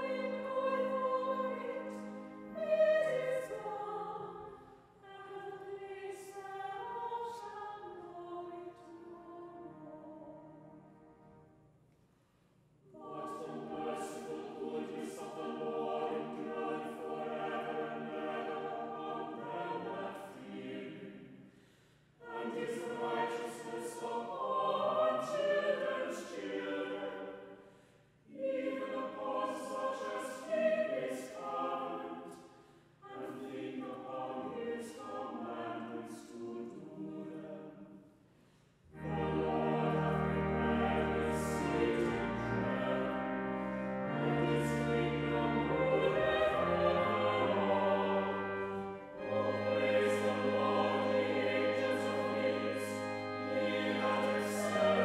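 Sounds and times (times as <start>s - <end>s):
church choir singing: 0.0s - 11.6s, 12.9s - 21.5s, 22.2s - 27.6s, 28.2s - 38.1s, 38.8s - 55.0s.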